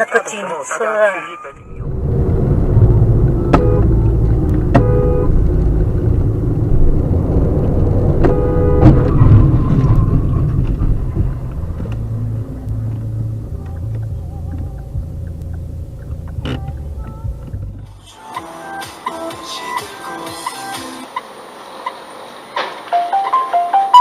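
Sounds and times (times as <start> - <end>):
engine and tyre rumble: 1.6 - 18.2, 20.6 - 23.5.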